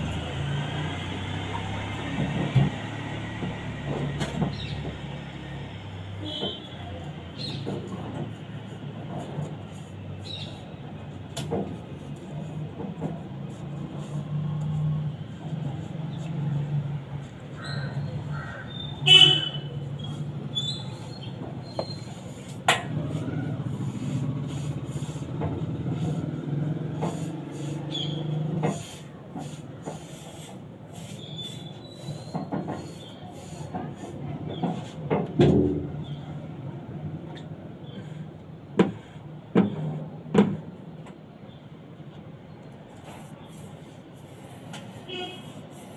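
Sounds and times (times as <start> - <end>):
sharp knocks and scrapes: 0.0 - 36.2, 37.3 - 41.2, 42.9 - 45.9.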